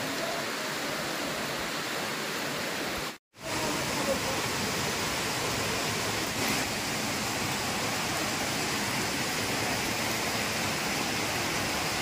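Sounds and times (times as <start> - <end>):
heavy rain falling: 0.0 - 12.0
waterfall rushing over rocks: 0.0 - 12.0.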